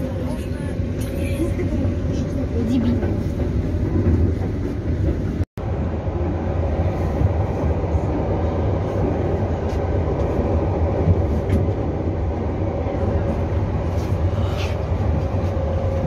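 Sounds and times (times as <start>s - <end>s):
electric train rumbling at speed: 0.0s - 16.0s.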